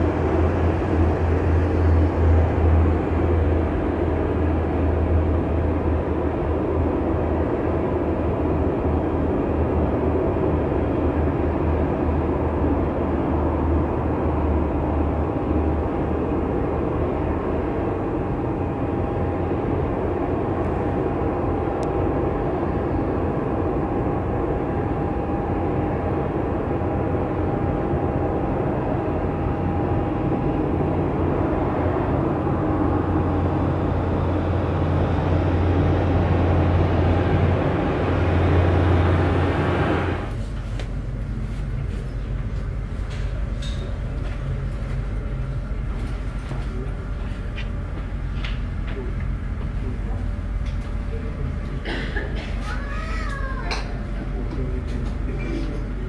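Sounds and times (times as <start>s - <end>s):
jet engines rumbling and hissing: 0.0s - 56.0s.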